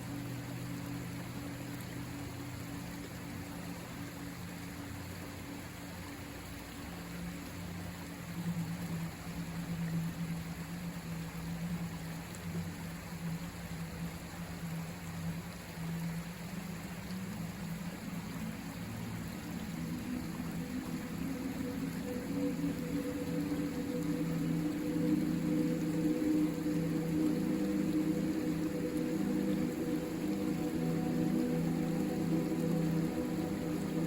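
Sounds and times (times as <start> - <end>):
low steady hum: 0.0 - 34.0
river water rushing: 0.0 - 34.0.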